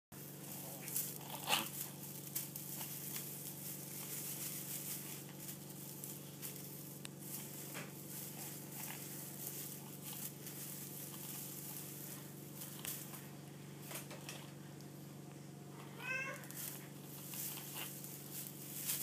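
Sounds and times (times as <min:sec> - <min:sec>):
steady low hum: 0:00.1 - 0:19.0.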